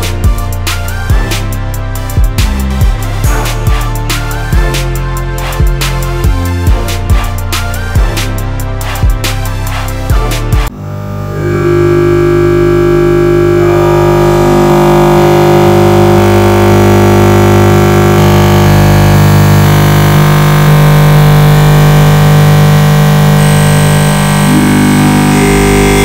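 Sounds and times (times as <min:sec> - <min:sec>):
noisy synthesizer chords: 0:00.0 - 0:26.0.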